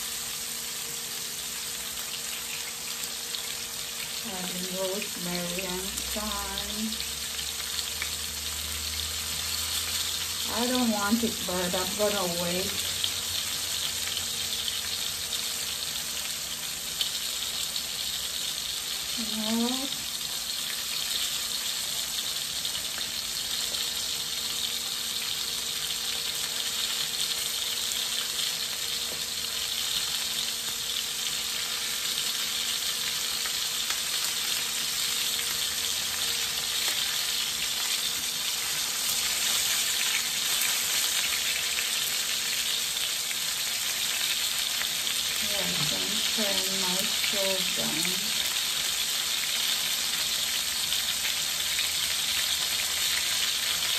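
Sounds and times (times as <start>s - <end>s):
fish sizzling in oil: 0.0s - 53.9s.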